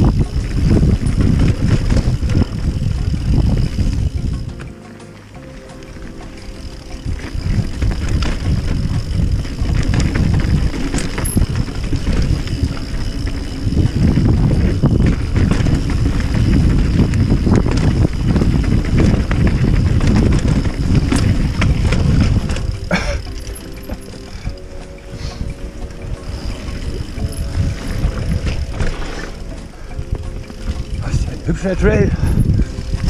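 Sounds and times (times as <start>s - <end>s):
bike tyres rumbling on dirt: 0.0s - 4.7s, 5.5s - 33.0s
bike chain and frame rattling: 0.0s - 33.0s.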